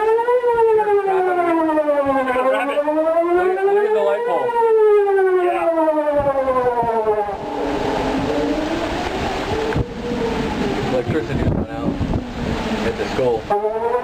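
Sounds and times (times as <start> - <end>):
warning siren wailing: 0.0 - 14.0.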